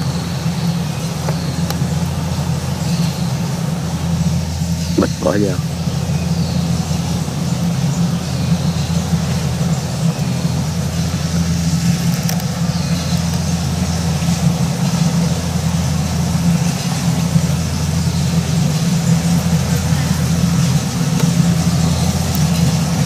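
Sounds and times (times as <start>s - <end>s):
combine harvester diesel drone: 0.0s - 23.0s.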